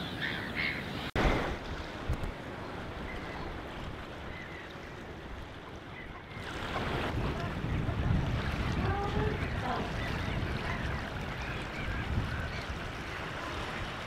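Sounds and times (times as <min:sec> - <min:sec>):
wind rumbling on microphone: 0:00.9 - 0:14.0.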